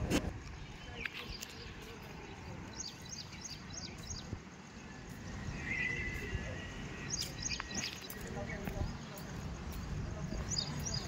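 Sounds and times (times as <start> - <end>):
birds chirping: 0.4 - 11.0.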